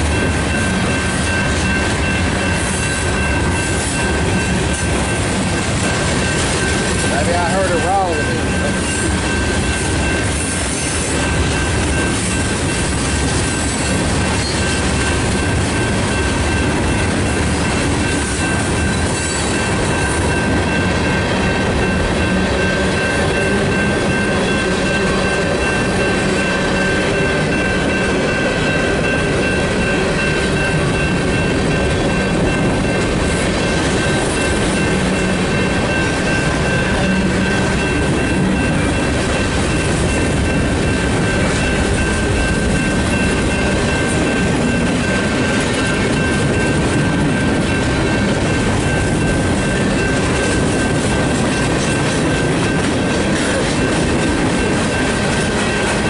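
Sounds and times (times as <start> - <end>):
high-pitched tone: 0.0 - 12.8, 13.6 - 54.0
freight train wheels rumbling: 0.0 - 56.0.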